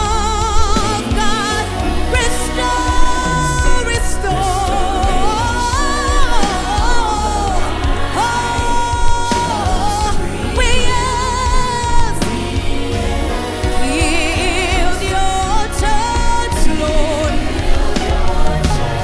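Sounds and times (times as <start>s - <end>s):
gospel worship song: 0.0s - 19.0s.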